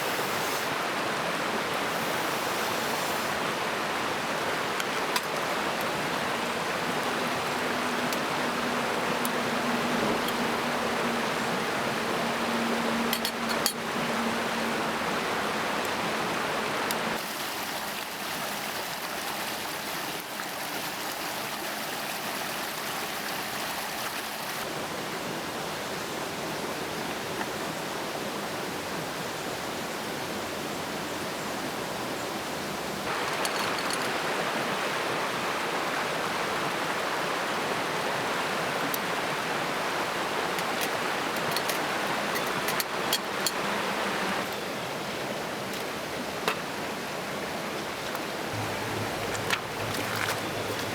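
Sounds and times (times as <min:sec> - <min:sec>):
stream rushing: 0:00.0 - 0:50.9.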